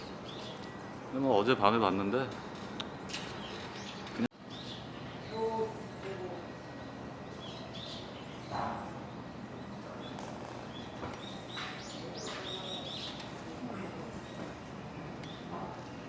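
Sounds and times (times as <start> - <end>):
birds chirping: 0.0 - 1.9, 2.8 - 15.9.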